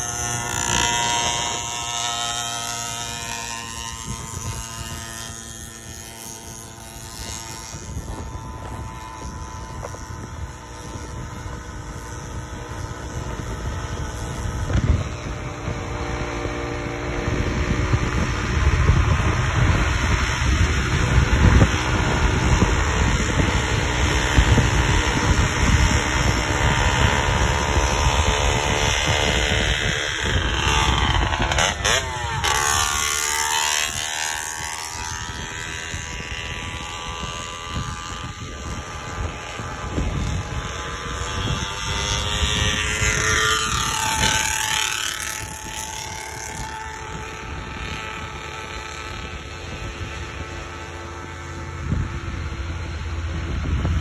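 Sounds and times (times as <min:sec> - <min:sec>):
bike tyres and drive humming: 0:00.0 - 0:54.0
wind buffeting microphone: 0:00.0 - 0:54.0.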